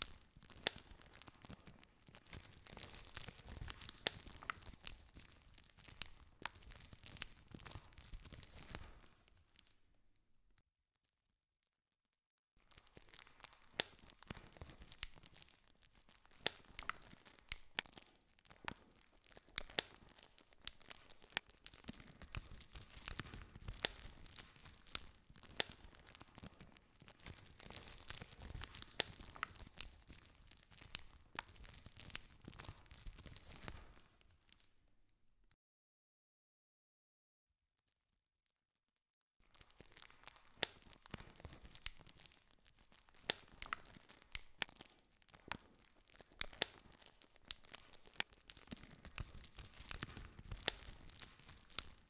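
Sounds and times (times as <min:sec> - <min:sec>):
campfire crackling: 0:00.0 - 0:09.3, 0:12.7 - 0:34.6, 0:39.5 - 0:52.0.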